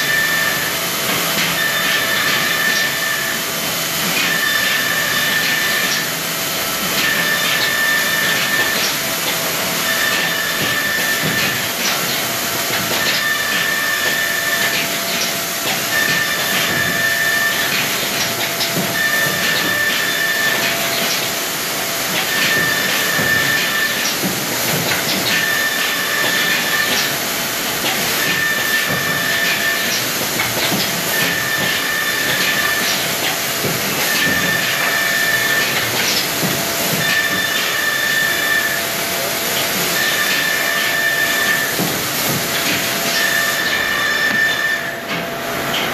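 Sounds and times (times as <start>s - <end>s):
machinery hiss and hum: 0.0s - 45.9s.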